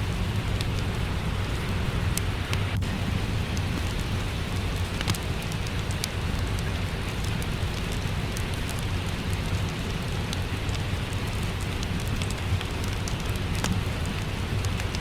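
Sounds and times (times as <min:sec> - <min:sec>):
steady rain hiss: 0:00.0 - 0:15.0
wood fire crackling: 0:00.0 - 0:15.0.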